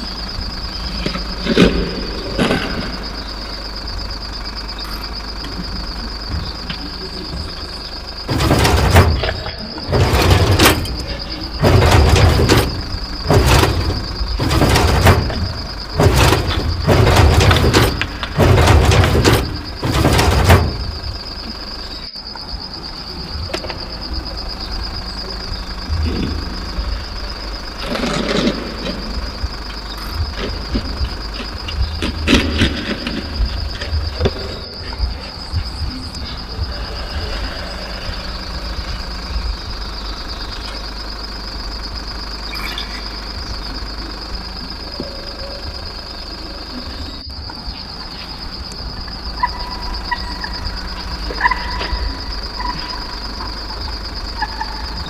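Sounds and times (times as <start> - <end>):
bursts of clatter: 0.0 - 22.2, 22.9 - 55.0
low rumble: 0.0 - 55.0.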